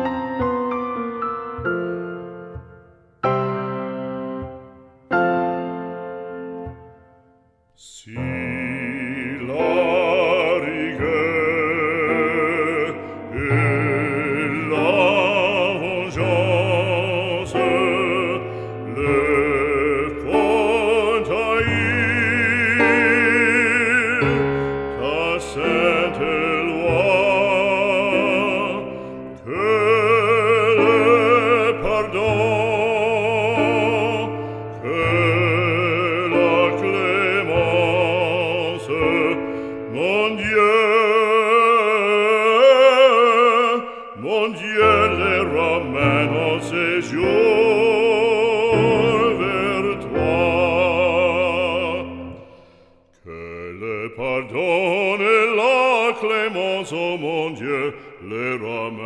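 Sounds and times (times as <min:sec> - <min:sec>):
operatic voice singing: 0:07.8 - 0:59.0.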